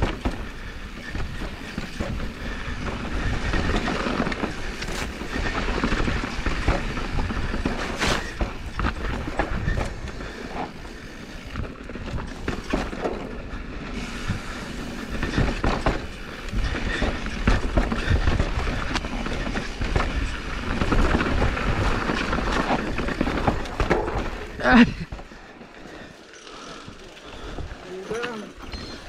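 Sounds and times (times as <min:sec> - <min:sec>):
bike knocks and rattles: 0:00.0 - 0:29.0
tyres rumbling over dirt and stones: 0:00.0 - 0:29.0.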